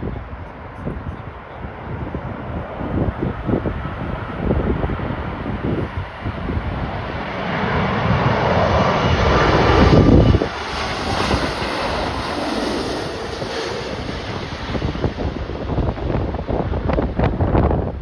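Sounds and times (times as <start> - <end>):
jet airliner passing: 0.0 - 18.0
wind rumbling on microphone: 0.0 - 18.0.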